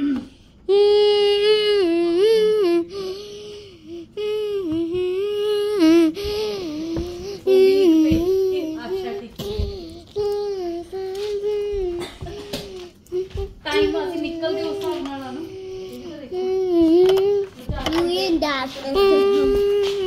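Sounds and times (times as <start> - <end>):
child humming: 0.0 - 18.2, 18.8 - 20.0.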